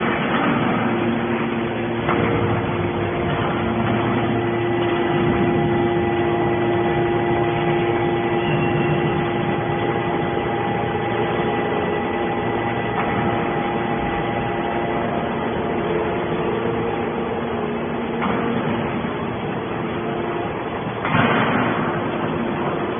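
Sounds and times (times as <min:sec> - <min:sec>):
baler machine hum: 0:00.0 - 0:22.9.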